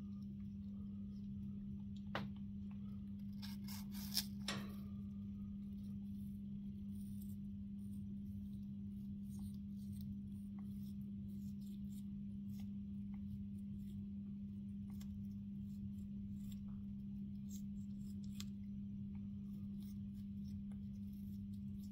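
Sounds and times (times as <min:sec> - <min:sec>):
low hum: 0:00.0 - 0:21.9.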